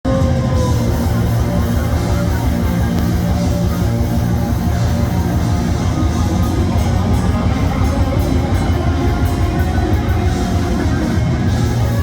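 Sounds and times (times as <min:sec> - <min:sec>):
heavy metal band playing live: 0:00.0 - 0:12.0.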